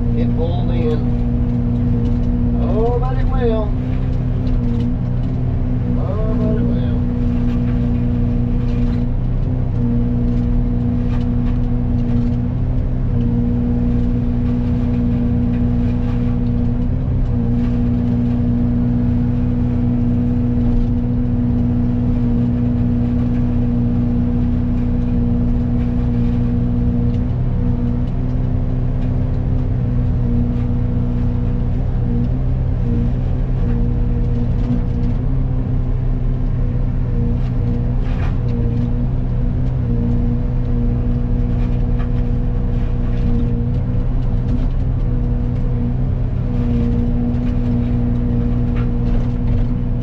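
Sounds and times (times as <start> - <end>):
excavator diesel engine: 0.0 - 50.0
forestry mulcher head running: 0.0 - 50.0.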